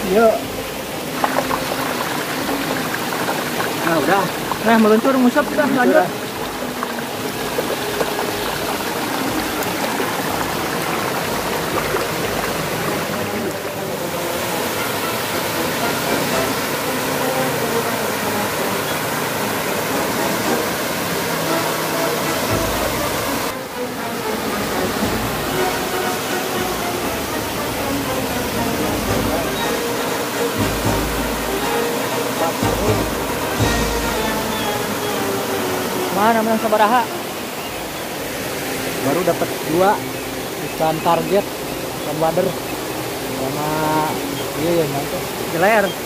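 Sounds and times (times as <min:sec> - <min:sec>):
small waterfall: 0:00.0 - 0:46.0
water rushing in rocky stream: 0:00.0 - 0:46.0.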